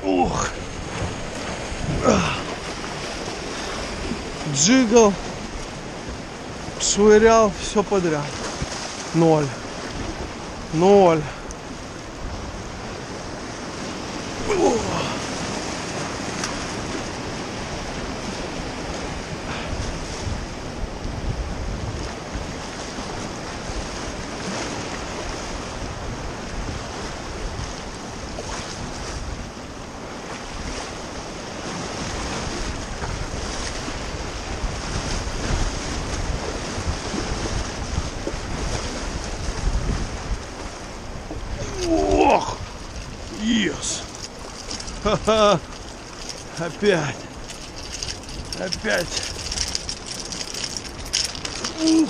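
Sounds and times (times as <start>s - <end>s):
surf breaking over rocks: 0.0s - 27.8s, 30.4s - 52.0s
wind buffeting microphone: 0.0s - 52.0s.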